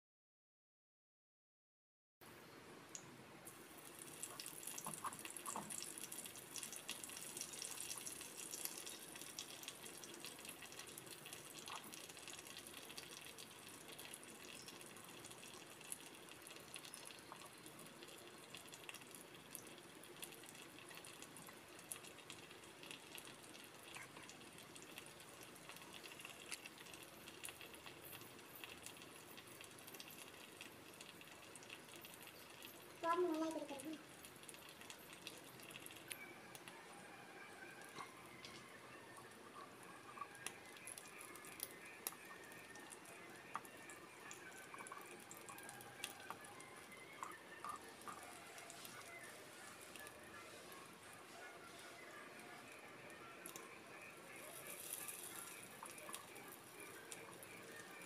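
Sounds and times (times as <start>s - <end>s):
oil crackles and pops: 2.9s - 37.0s, 37.6s - 58.0s
prawns sizzling in hot oil: 3.5s - 58.0s.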